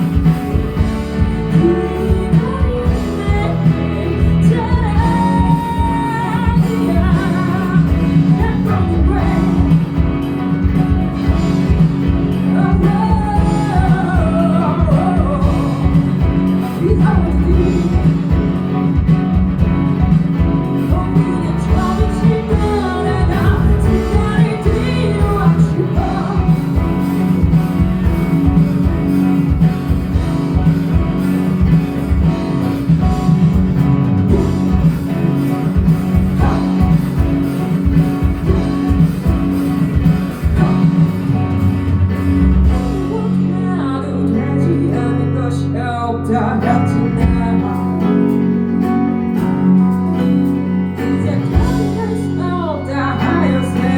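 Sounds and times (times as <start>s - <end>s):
person singing: 0.0s - 19.4s, 20.0s - 31.0s, 34.3s - 53.9s
live band playing: 0.0s - 53.9s.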